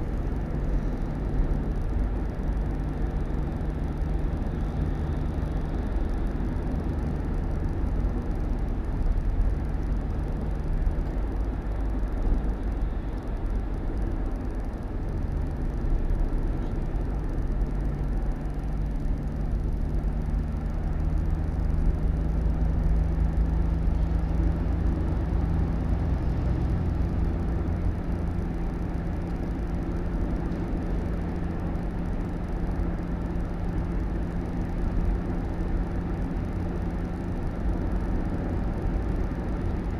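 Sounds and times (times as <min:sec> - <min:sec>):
low road rumble: 0:00.0 - 0:39.9
vehicle engine running: 0:00.0 - 0:39.9.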